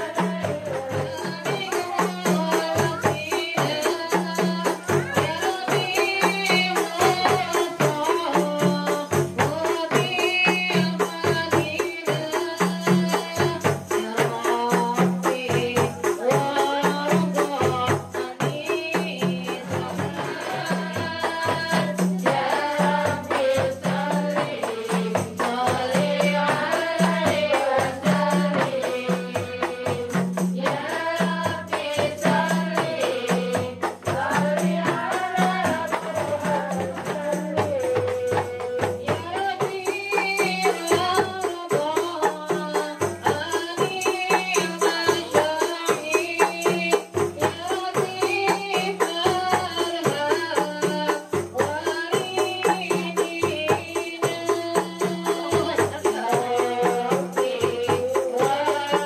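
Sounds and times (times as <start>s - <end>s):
frame drums beating: 0.0s - 59.0s
jingle tambourines: 0.0s - 59.0s
women singing devotional song: 0.0s - 59.0s.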